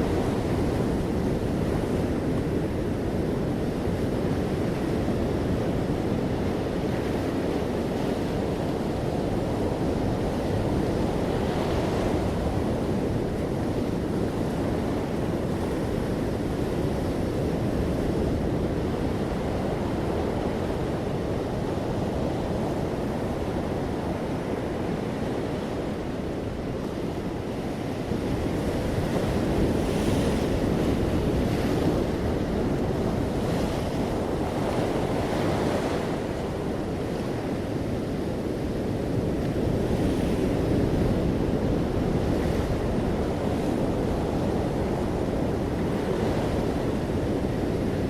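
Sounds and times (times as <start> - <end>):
ocean waves washing ashore: 0.0 - 48.0.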